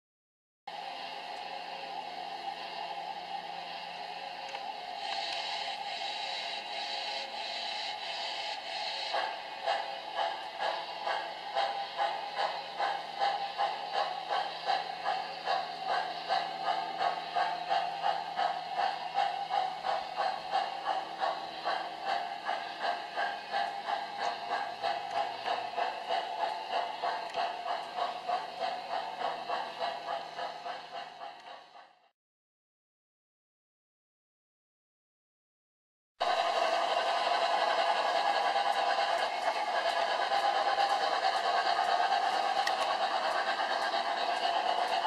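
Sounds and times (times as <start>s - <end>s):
model steam train chugging: 0.7s - 32.1s, 36.2s - 45.0s.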